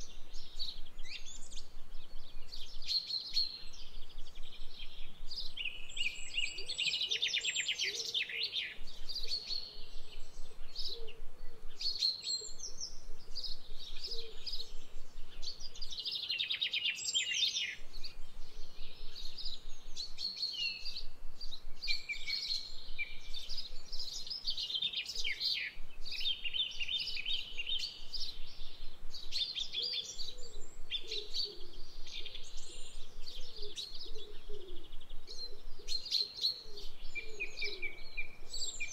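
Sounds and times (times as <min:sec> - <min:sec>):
birds singing and chirping: 0:00.0 - 0:38.9.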